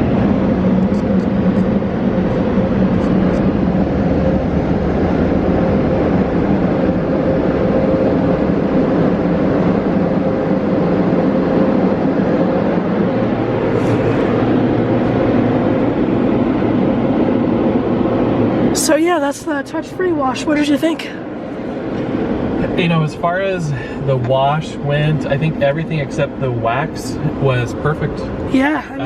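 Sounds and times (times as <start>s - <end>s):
car wash dryer blowers roaring: 0.0s - 29.0s
constant hum: 0.0s - 29.0s.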